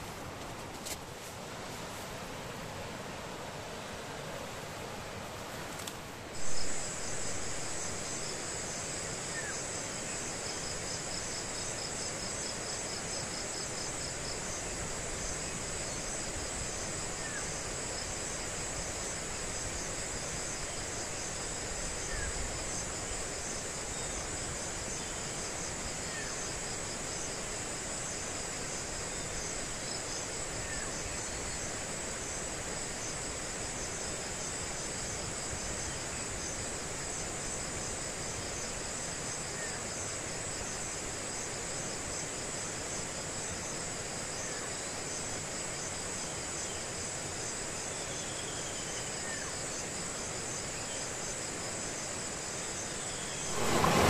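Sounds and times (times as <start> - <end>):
faint hiss: 0.0 - 54.0
insects trilling: 6.4 - 54.0.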